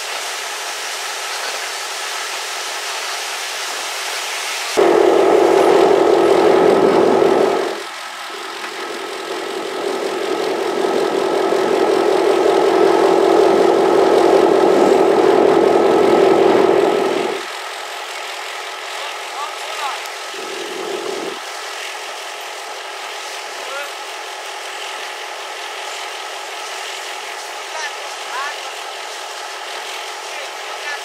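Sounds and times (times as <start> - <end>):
engine drone: 4.7 - 31.0.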